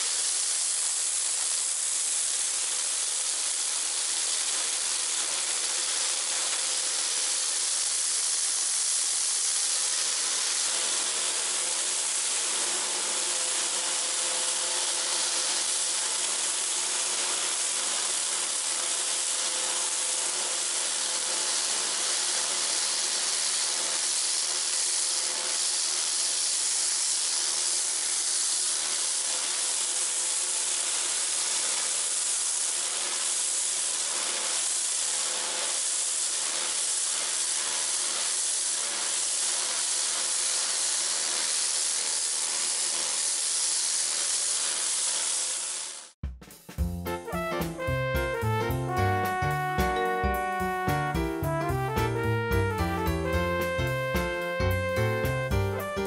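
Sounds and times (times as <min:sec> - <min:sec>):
pressure washer spraying water: 0:00.0 - 0:46.2.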